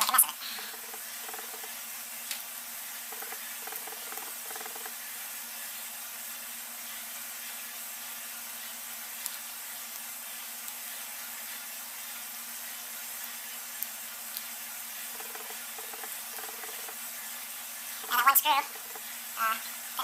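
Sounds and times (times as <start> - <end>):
steady hiss and low hum: 0.0 - 20.0.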